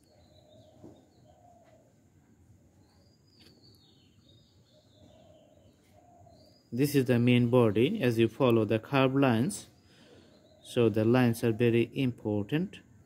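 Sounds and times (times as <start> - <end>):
faint bird calls: 0.0 - 8.0, 9.3 - 12.1.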